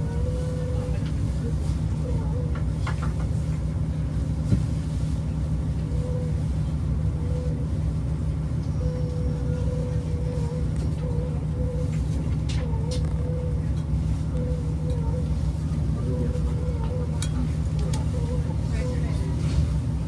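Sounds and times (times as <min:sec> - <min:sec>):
diesel railcar idling rumble: 0:00.0 - 0:20.0.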